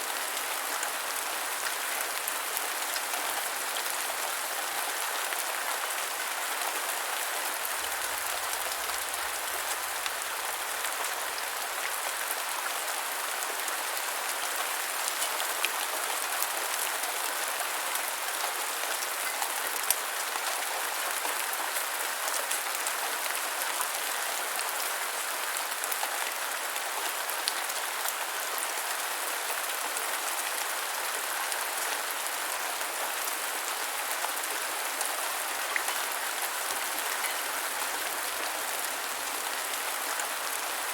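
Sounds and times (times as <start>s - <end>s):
gentle rainfall: 0.0s - 40.9s.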